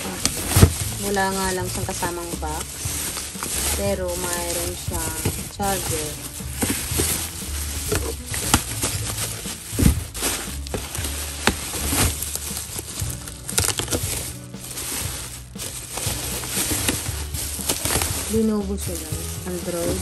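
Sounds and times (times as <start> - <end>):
bubble wrap crackling: 0.0 - 20.0.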